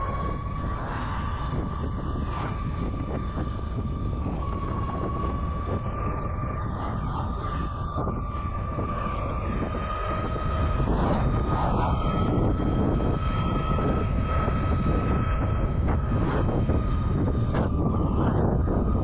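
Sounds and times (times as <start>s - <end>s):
electric motor whine: 0.0s - 19.0s
wind and road rush: 0.0s - 19.0s.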